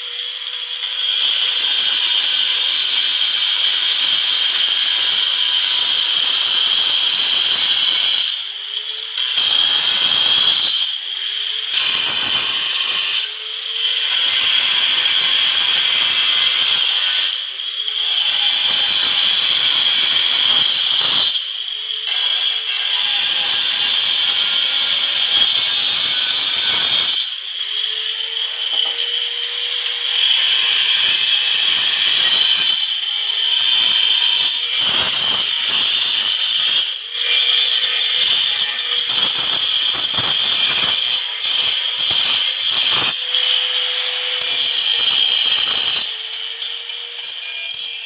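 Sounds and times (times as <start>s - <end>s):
angle grinder cutting tile: 0.0s - 48.0s.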